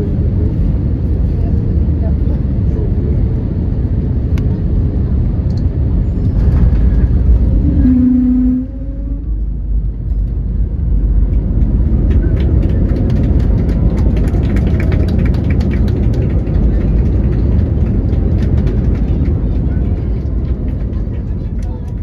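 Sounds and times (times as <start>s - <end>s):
airliner engine rumble: 0.0s - 22.0s.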